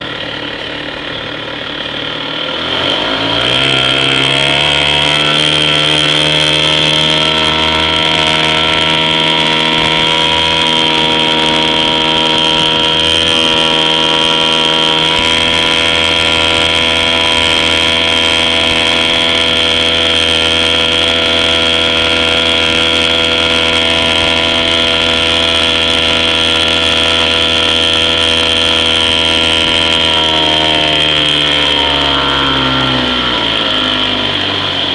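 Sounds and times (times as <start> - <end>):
outboard motor running: 0.0 - 34.9.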